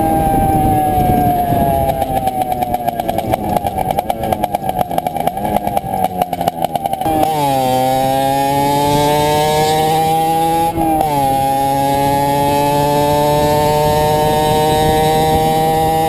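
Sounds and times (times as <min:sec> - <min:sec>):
two-stroke motorcycle engine droning: 0:00.0 - 0:16.0.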